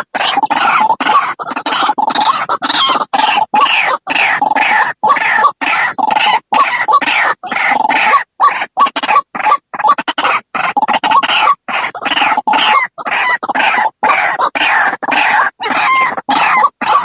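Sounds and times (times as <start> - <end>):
waterhen calling: 0.0 - 17.0.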